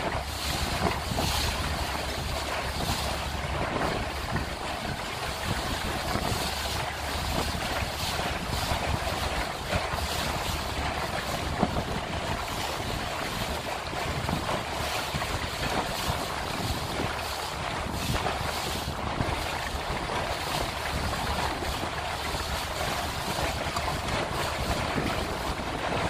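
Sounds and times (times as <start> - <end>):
water splashing against boat: 0.0 - 26.0
wind buffeting microphone: 0.0 - 26.0.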